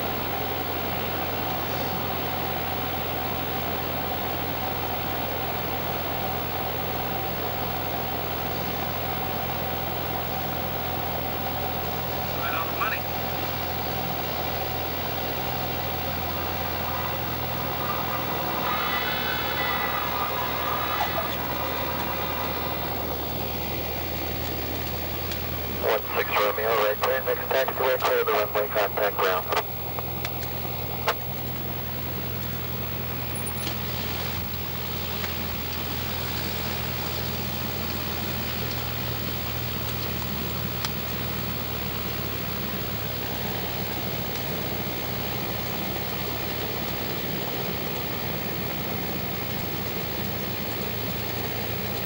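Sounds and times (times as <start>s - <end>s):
airplane engine drone: 0.0s - 52.0s
high steady whine: 0.0s - 52.0s.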